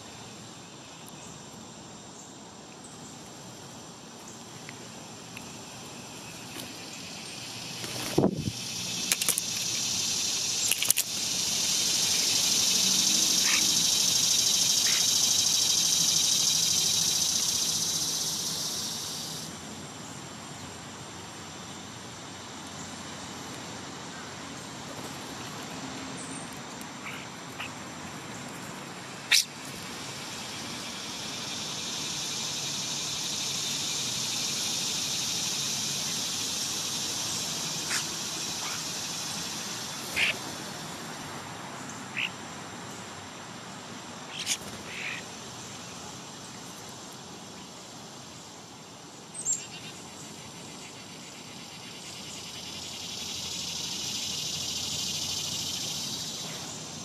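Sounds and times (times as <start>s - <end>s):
high insect hum: 0.0s - 57.0s
songbirds chirping: 0.0s - 57.0s.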